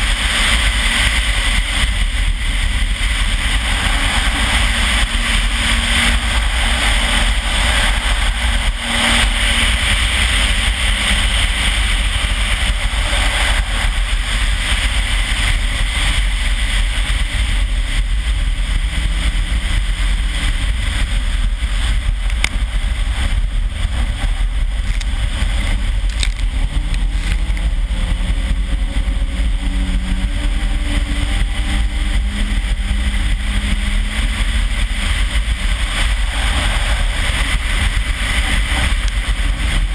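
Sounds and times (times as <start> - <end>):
car engine at speed: 0.0 - 39.9
wind rumble on microphone: 0.0 - 39.9.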